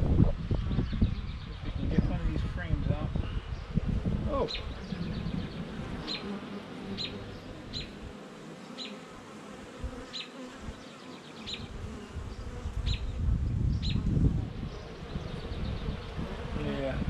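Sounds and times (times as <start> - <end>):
honey bees buzzing: 0.4 - 17.0.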